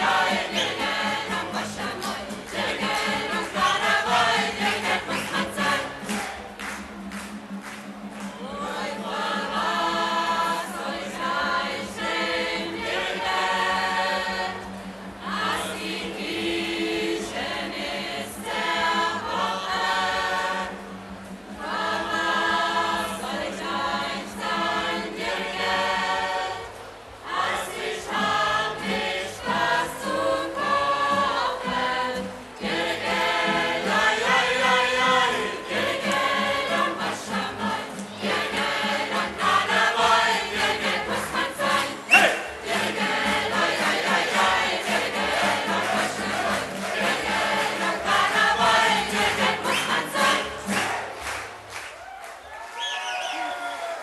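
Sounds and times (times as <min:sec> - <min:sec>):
choir singing: 0:00.0 - 0:06.5, 0:08.1 - 0:51.5.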